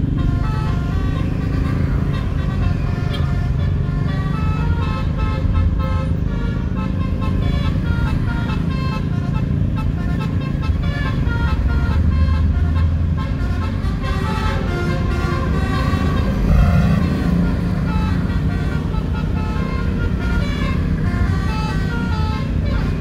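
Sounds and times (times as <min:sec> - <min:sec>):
bus horn playing melody: 0:00.0 - 0:23.0
road traffic rumble: 0:00.0 - 0:23.0.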